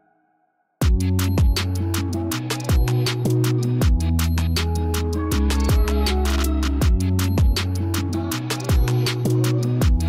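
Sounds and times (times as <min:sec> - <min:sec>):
electronic music with sliding bass: 0:00.8 - 0:10.0.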